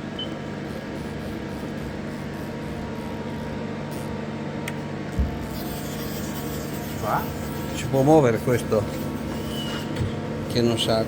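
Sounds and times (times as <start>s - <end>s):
lathe motors humming: 0.0s - 11.0s.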